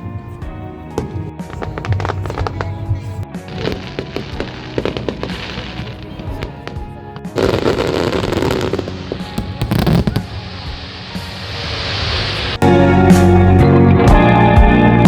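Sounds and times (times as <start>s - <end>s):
fireworks bangs and crackles: 0.0s - 12.6s
music playing: 0.0s - 15.0s.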